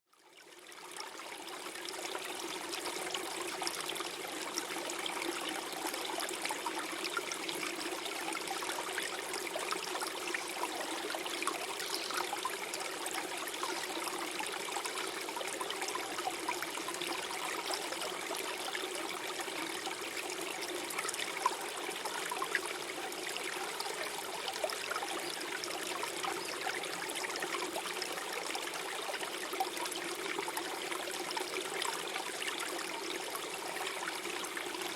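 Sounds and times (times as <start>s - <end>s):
stream flowing and gurgling: 0.2s - 34.9s.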